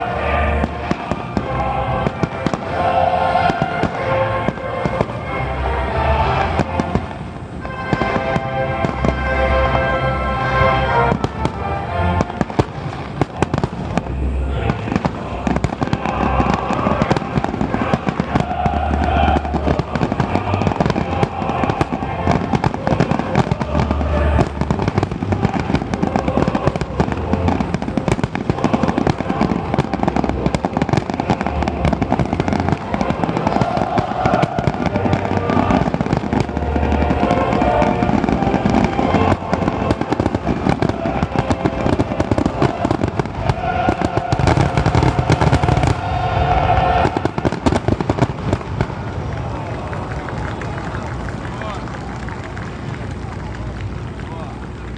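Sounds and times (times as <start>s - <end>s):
deep fireworks booms: 0.0s - 50.8s
fireworks crackling: 0.0s - 54.9s.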